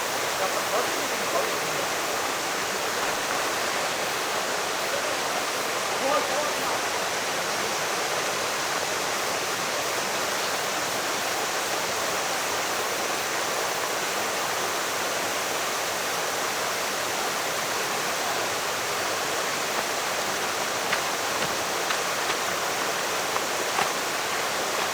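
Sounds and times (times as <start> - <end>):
stream rushing over rocks: 0.0 - 24.9.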